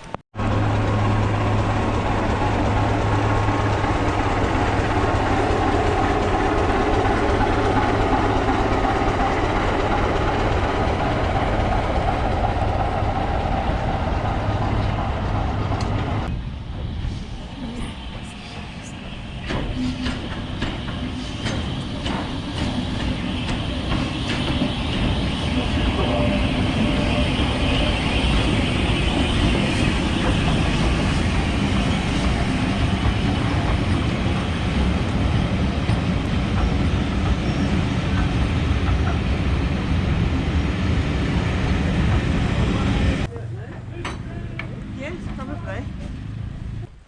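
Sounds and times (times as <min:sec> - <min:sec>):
steam train rumbling: 0:00.0 - 0:47.0.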